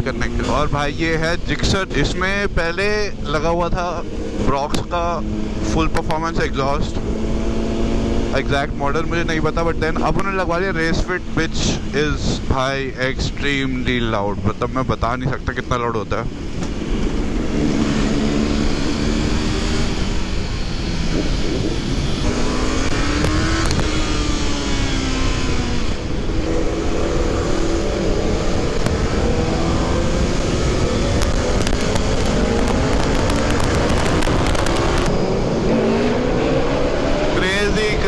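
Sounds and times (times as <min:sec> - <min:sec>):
loud motorcycle engine revving: 0:00.0 - 0:13.7, 0:16.1 - 0:38.0.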